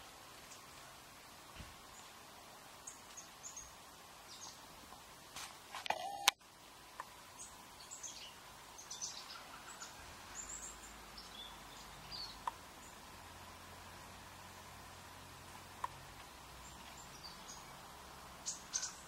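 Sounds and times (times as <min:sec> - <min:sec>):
small birds chirping: 0:00.0 - 0:05.1, 0:06.9 - 0:19.0
faint outdoor background: 0:00.0 - 0:19.0.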